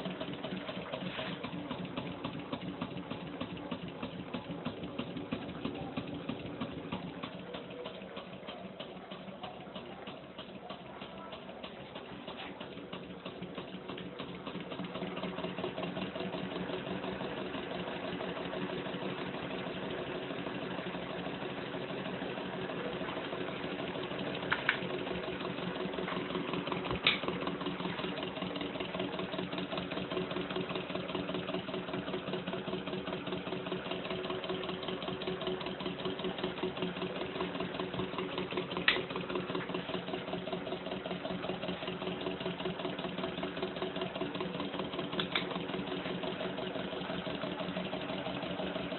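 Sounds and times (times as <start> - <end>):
engine mechanical pulsing hum: 0.0 - 48.9.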